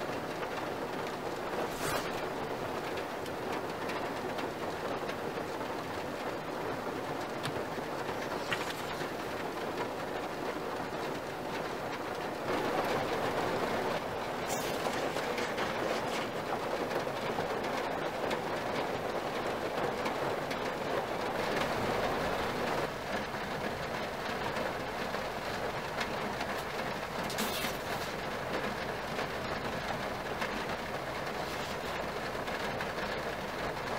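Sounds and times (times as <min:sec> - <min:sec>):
heavy rain on car roof: 0:00.0 - 0:33.9.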